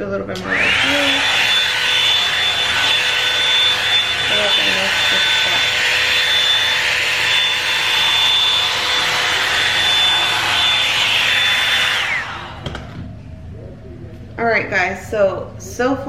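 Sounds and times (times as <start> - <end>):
hair dryer running: 0.2 - 13.1.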